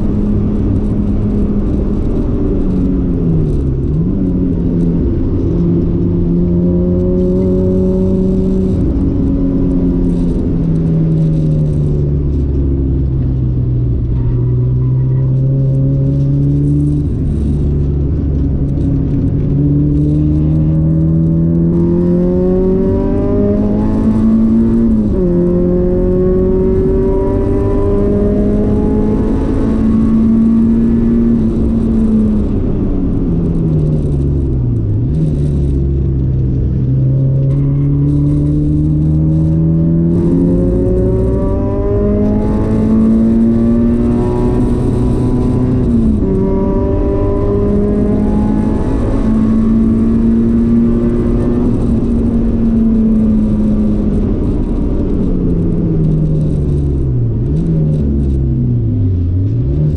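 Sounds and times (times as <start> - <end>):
car engine at full throttle: 0.0 - 59.9
road and wind noise: 0.0 - 59.9.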